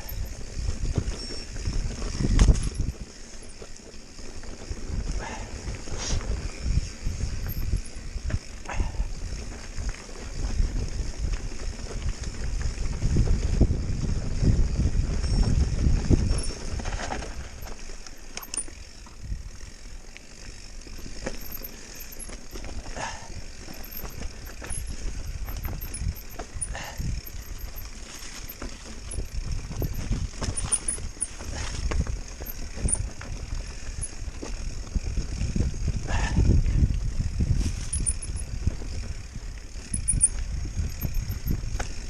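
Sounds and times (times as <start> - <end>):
wind rumbling on microphone: 0.0 - 20.0, 20.7 - 42.0
bike chain and frame rattling: 0.0 - 42.0.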